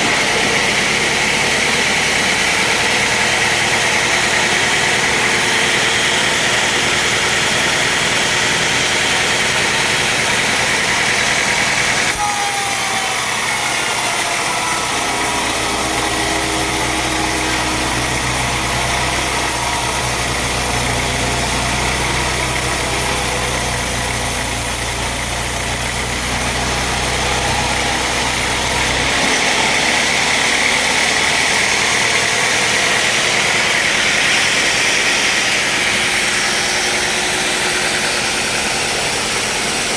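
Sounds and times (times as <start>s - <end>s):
low motor hum: 0.0s - 39.2s
sawmill machinery running: 0.0s - 39.9s.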